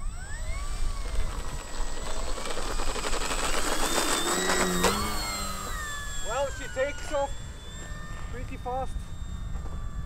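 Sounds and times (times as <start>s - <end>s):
model plane motor whine: 0.0s - 10.0s.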